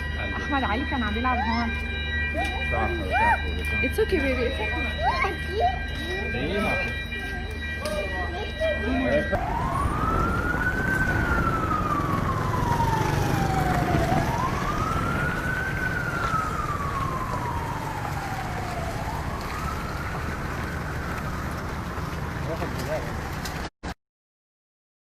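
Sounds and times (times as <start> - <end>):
emergency vehicle siren wailing: 0.0 - 23.7
traffic rumble: 0.0 - 23.7.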